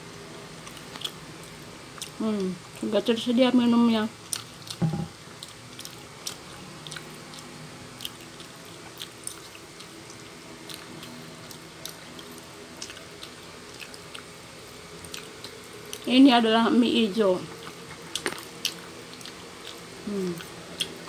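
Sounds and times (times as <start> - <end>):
chewing noodles: 0.6 - 2.9, 4.2 - 14.3, 15.0 - 16.1, 17.4 - 21.0.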